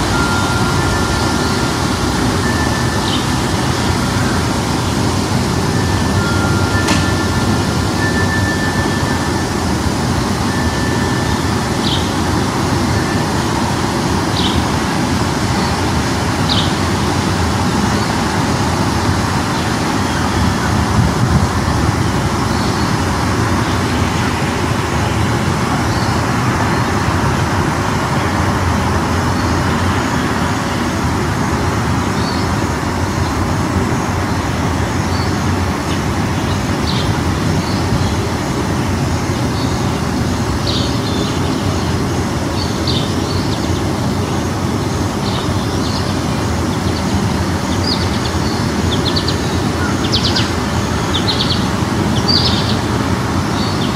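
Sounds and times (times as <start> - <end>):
road traffic noise: 0.0 - 53.9.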